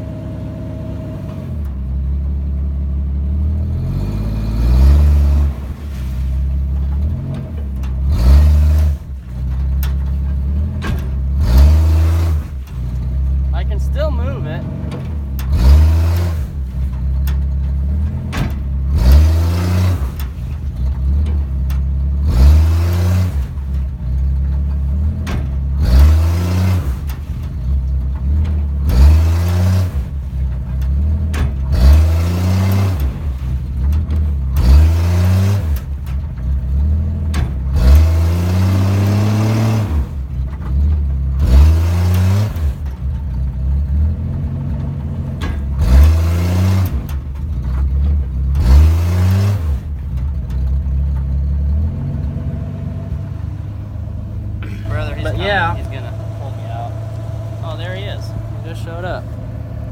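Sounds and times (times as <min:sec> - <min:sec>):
pickup engine revving: 0:00.0 - 0:59.9
tyres spinning in mud: 0:02.3 - 0:59.9.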